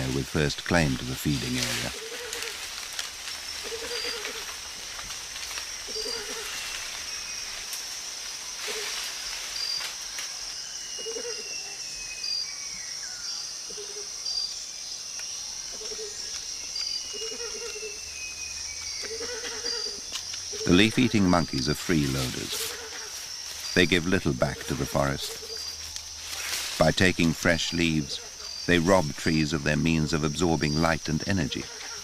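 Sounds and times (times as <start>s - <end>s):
high-pitched insect drone: 1.1s - 32.0s.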